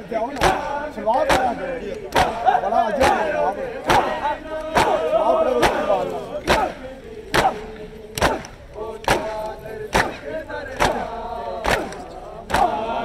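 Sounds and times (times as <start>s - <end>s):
group chanting a lament: 0.0s - 13.0s
men slapping chests: 0.3s - 13.0s.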